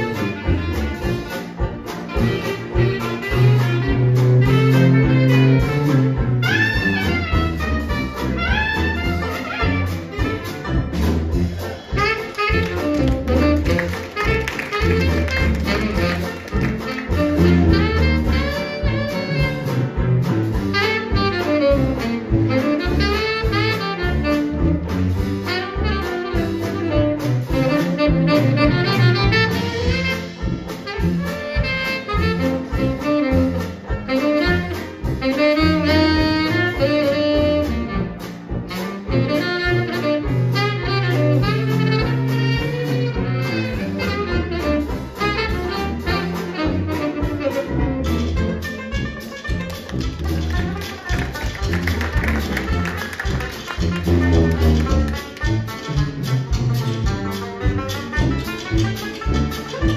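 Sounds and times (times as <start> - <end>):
dixieland jazz band playing: 0.0 - 59.9
drums: 0.0 - 59.9
piano: 0.0 - 59.9
saxophone lead: 0.0 - 59.9
tuba bass notes: 0.0 - 59.9.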